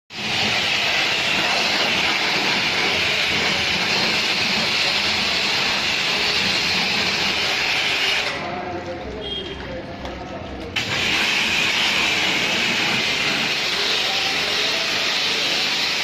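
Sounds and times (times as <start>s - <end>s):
pressure washer spraying: 0.1s - 8.6s, 10.8s - 16.0s.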